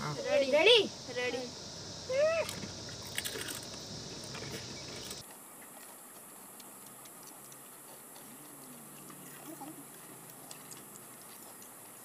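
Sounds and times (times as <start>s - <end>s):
people eating crisps: 2.3s - 12.0s.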